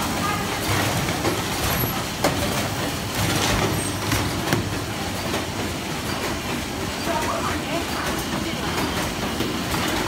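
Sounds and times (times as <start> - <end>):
machine clicks and clatter: 0.0 - 10.0
steady mechanical hum: 0.0 - 10.0.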